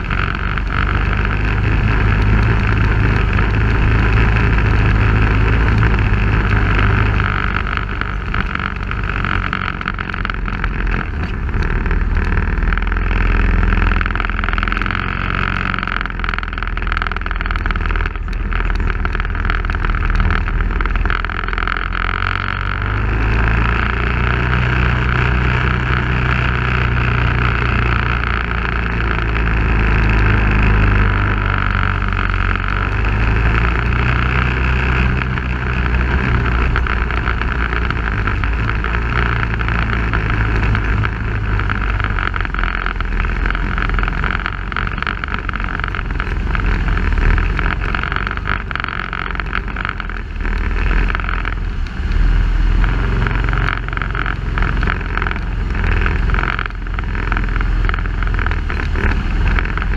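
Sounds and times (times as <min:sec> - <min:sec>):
off-road vehicle engine: 0:00.0 - 0:59.9
wind: 0:00.0 - 0:59.9.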